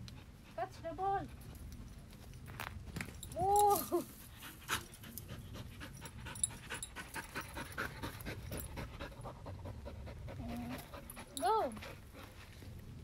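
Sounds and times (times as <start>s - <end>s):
dog panting fast: 0.0s - 1.8s, 4.2s - 13.0s.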